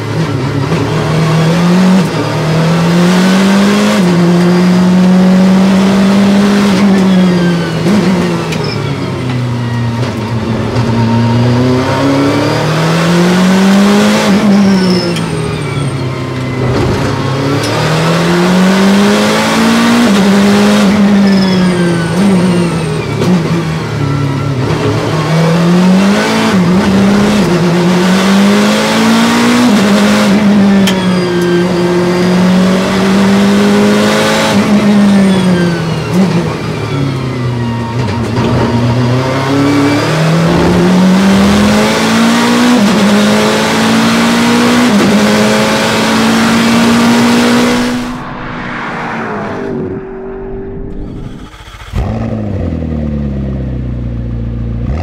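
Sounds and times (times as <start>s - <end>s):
race car engine revving: 0.0s - 8.7s, 9.6s - 54.0s.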